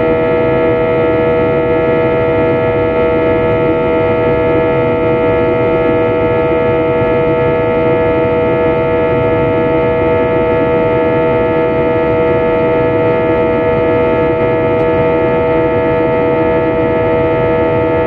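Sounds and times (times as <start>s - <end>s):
jet engine drone in cabin: 0.0s - 18.0s.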